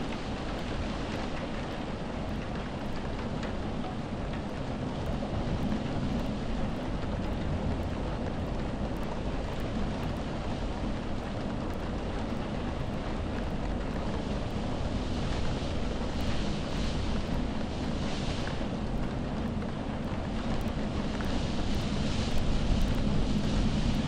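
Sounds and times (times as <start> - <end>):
heavy rainstorm: 0.0 - 24.0.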